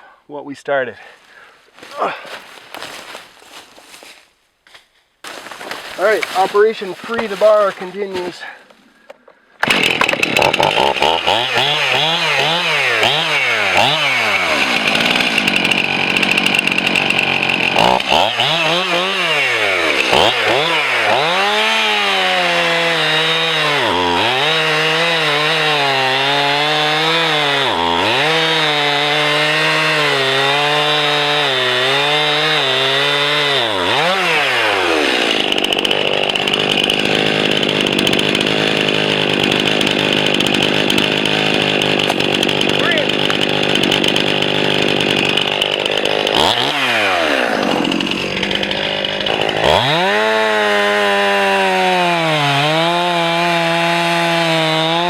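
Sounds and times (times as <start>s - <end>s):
chainsaw cutting log: 5.3s - 8.6s, 9.6s - 55.0s.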